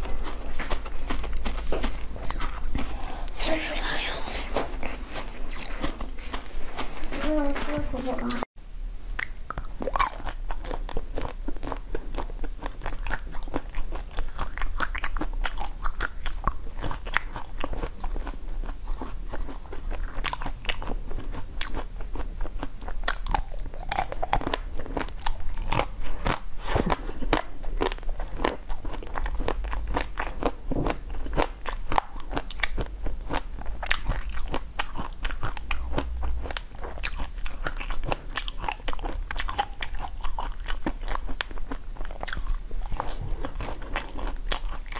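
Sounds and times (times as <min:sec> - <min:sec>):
chewing: 0:00.0 - 0:08.4, 0:09.1 - 0:44.9
crunching frozen sweets: 0:00.0 - 0:08.4, 0:09.1 - 0:44.9.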